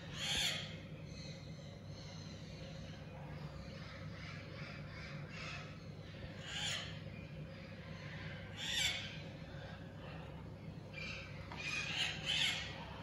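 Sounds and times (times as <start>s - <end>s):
harsh bird calls: 0.0s - 13.0s.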